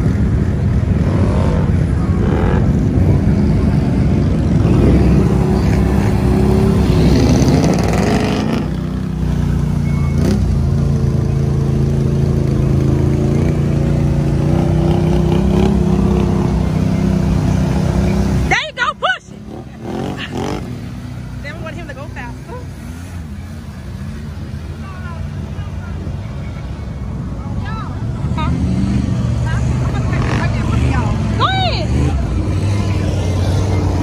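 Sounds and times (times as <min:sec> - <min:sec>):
off-road vehicle engine revving: 0:00.0 - 0:34.0.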